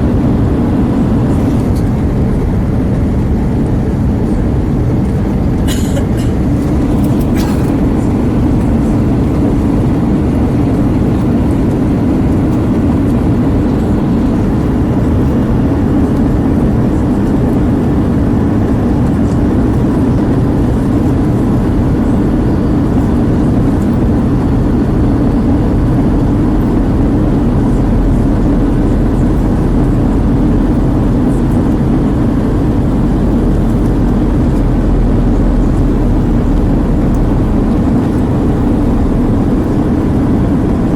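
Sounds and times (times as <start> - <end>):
airplane cabin engine rush: 0.0 - 40.9.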